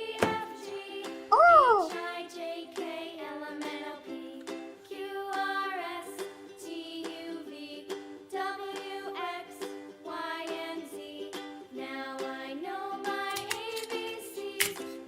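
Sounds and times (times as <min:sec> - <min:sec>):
upbeat children's music with ukulele: 0:00.0 - 0:15.0.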